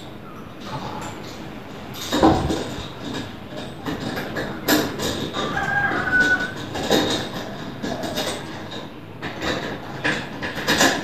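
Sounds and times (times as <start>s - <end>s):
metal stand knocks and rattles: 2.0s - 11.0s.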